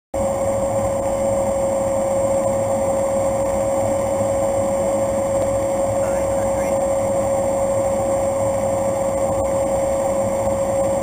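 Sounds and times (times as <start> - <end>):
turboprop engine drone in cockpit: 0.2 - 11.0.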